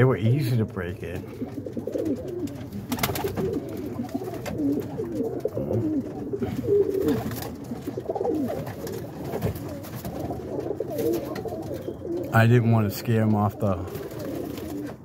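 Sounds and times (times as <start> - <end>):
pigeons cooing: 1.1 - 15.0.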